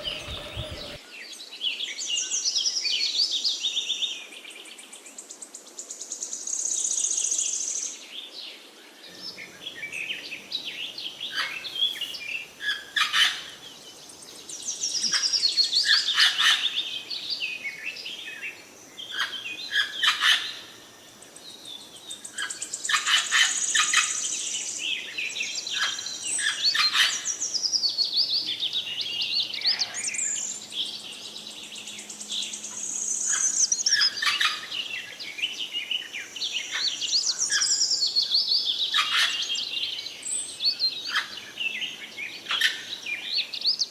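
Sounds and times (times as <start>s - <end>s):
birds chirping and twittering: 0.0s - 2.5s, 6.6s - 43.9s.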